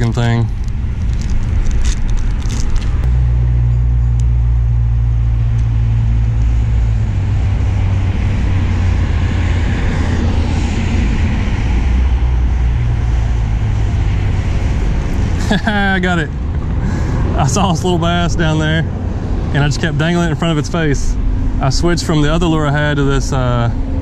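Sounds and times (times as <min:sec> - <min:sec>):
low vehicle engine rumble: 0:00.0 - 0:24.0.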